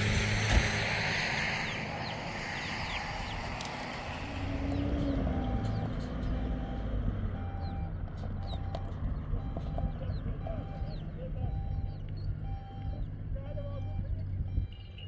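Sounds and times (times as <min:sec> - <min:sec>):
truck engine rumbling: 0:00.0 - 0:15.0
faint birds chirping: 0:01.6 - 0:15.0.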